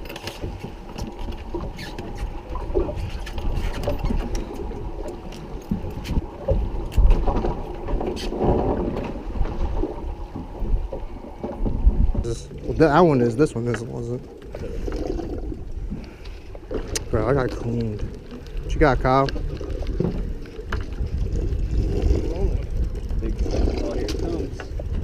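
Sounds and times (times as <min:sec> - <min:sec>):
wind on microphone: 0:00.0 - 0:13.2, 0:16.9 - 0:25.0
fishing boat engine rumble: 0:00.0 - 0:25.0.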